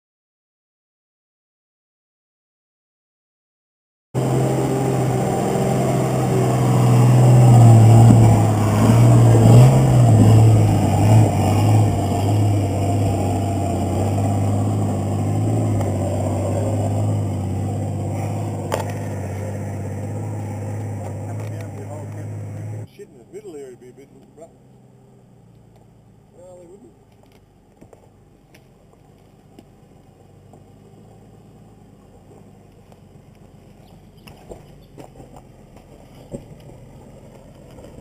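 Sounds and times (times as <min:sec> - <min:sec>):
vehicle engine climbing: 0:04.2 - 0:38.0.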